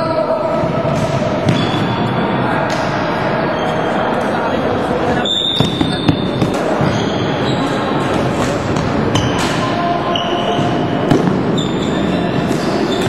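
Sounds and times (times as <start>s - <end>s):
sports hall din: 0.0s - 13.0s.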